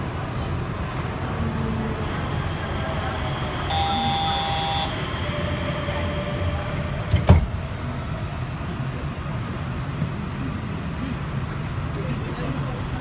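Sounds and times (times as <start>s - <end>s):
train car ventilation hum: 0.0s - 13.0s.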